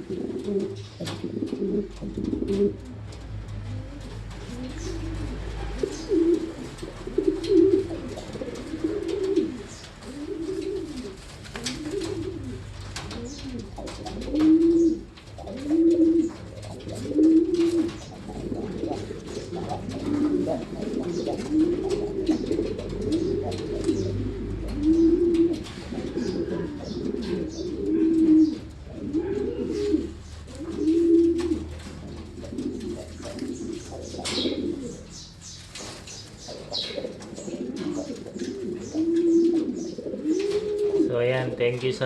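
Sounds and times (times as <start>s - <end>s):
pigeons cooing: 0.0s - 42.0s.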